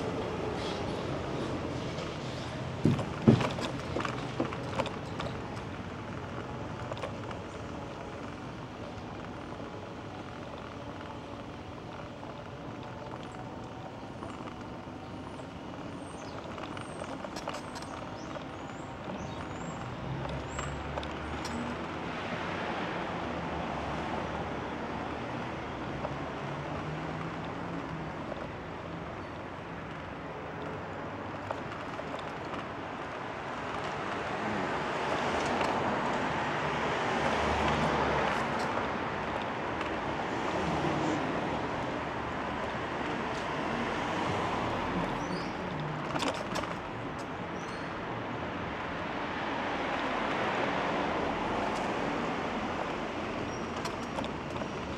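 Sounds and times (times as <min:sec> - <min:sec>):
vehicles driving past: 0:00.0 - 0:54.9.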